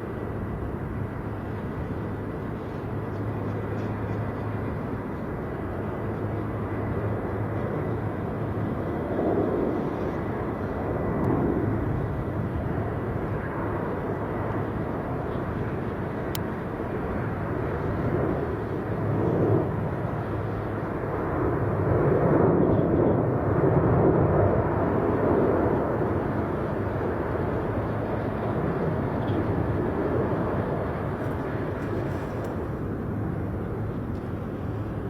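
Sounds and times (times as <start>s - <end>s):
jet engine noise: 0.0s - 35.0s.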